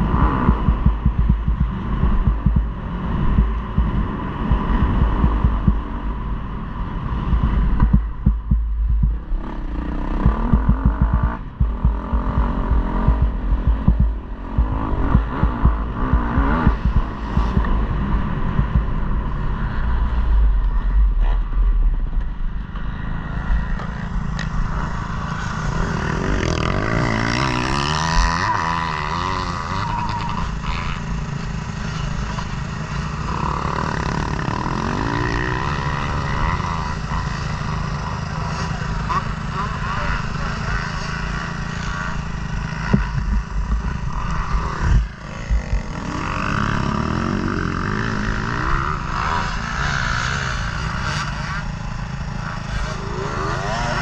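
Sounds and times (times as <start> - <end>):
motocross bike engine revving: 0.0 - 21.5, 22.7 - 54.0.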